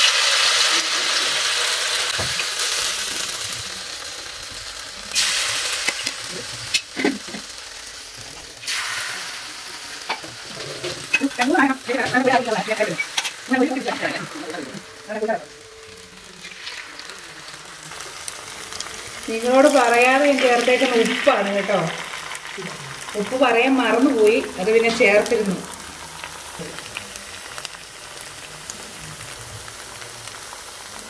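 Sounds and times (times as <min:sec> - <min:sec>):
strips sizzling in hot oil: 0:00.0 - 0:31.0.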